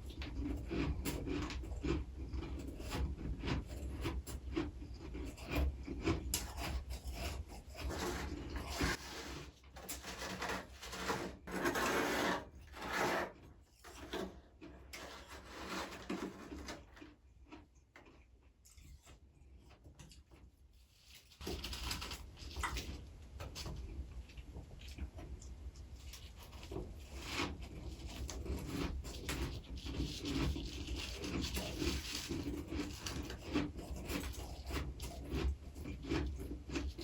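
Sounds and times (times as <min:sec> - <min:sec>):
frost being scraped and bitten: 0:00.1 - 0:23.0, 0:26.0 - 0:37.0.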